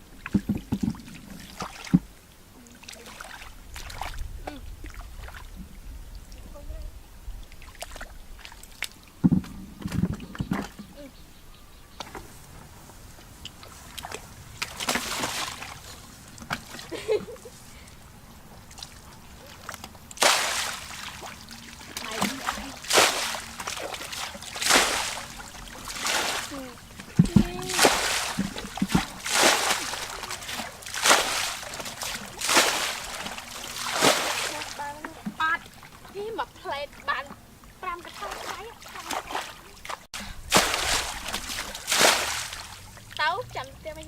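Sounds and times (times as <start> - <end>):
water sloshing and splashing: 0.0 - 11.2, 11.9 - 44.0.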